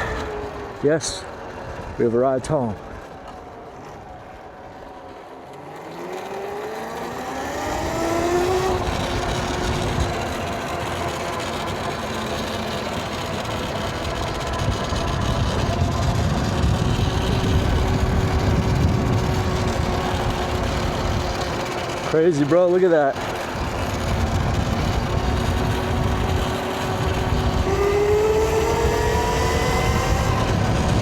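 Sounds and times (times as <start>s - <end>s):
wind and road rumble: 0.0s - 31.0s
electric motor whining: 5.5s - 31.0s.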